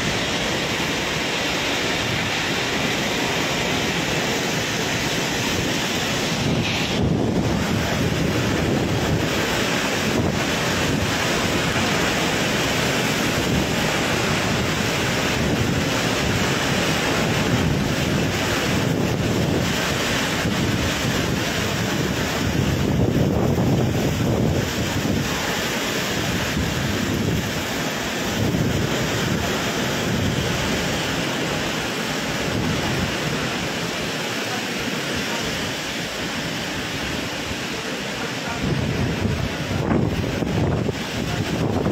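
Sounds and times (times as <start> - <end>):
wind buffeting microphone: 0.0 - 33.9, 38.5 - 41.9
strong wind rushing: 0.0 - 41.9
torrential rain: 0.0 - 41.9.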